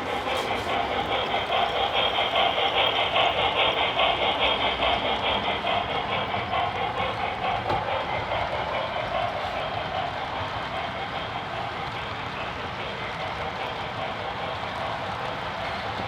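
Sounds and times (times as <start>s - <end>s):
model train rolling and whirring: 0.0s - 16.0s.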